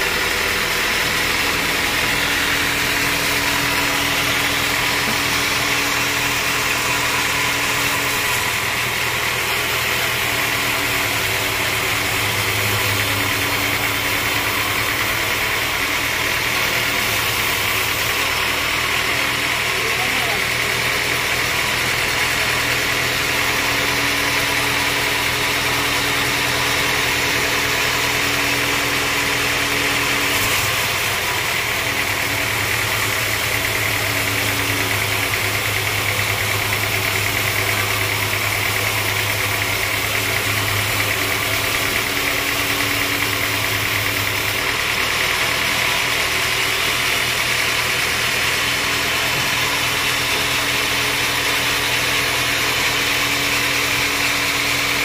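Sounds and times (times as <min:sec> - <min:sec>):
saw blade cutting log: 0:00.0 - 0:55.0
sawmill machine hum: 0:00.0 - 0:55.0.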